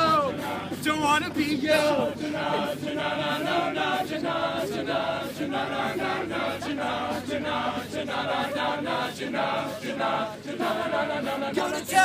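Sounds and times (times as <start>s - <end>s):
male group singing in harmony: 0.0s - 12.0s
vocal percussion beat: 0.0s - 12.0s.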